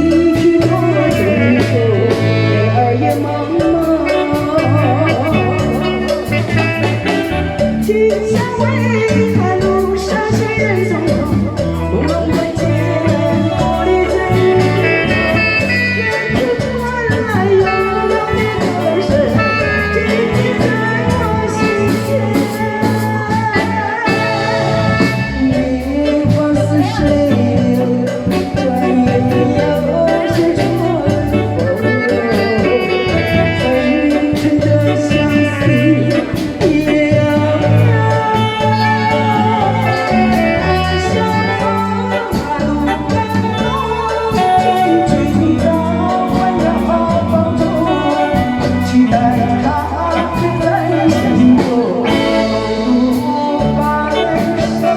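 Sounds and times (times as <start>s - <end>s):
instrumental accompaniment: 0.0s - 54.9s
person singing: 0.0s - 54.9s
repeating bass line: 0.0s - 54.9s.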